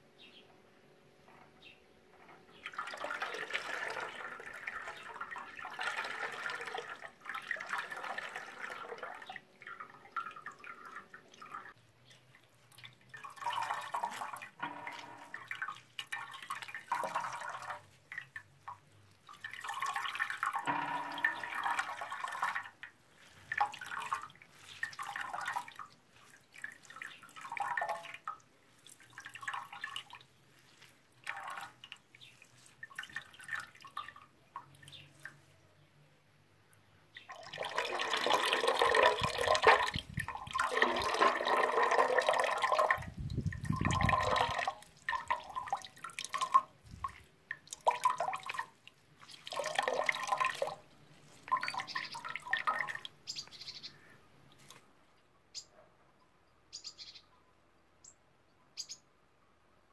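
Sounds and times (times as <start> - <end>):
juice splashing into a pot: 2.6 - 35.5, 37.2 - 53.2.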